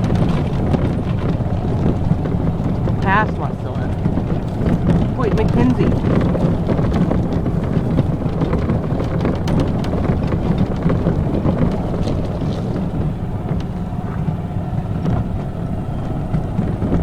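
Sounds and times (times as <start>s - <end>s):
golf cart rumbling: 0.0s - 17.0s
light rattles and clicks: 0.0s - 17.0s
wind buffeting microphone: 0.0s - 17.0s.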